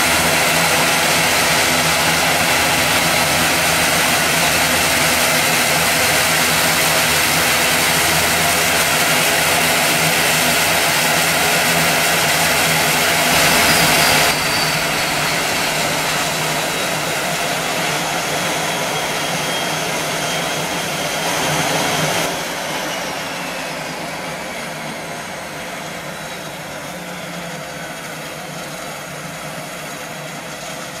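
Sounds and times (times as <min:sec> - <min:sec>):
turboprop aircraft passing: 0:00.0 - 0:28.1.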